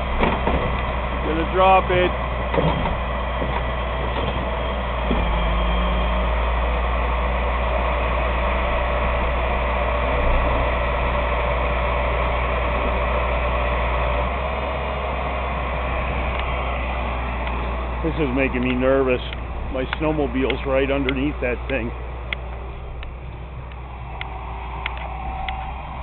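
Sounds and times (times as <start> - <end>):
heavy machine engine droning: 0.0 - 26.0.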